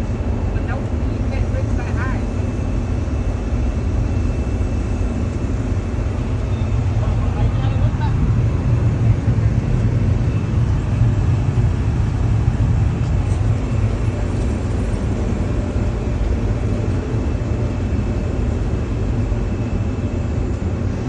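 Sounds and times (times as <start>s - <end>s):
machinery rumbling: 0.0s - 21.0s
faint high whine: 0.1s - 21.0s.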